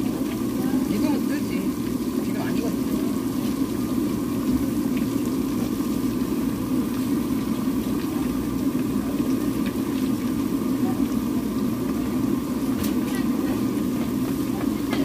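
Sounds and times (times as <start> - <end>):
deep fryer oil bubbling: 0.0 - 15.0.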